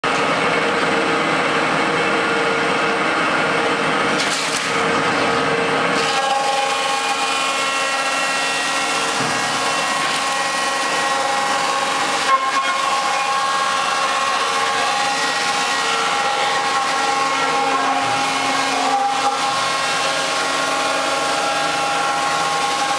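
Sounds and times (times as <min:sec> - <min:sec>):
wood chipping machine whine: 0:00.1 - 0:22.9.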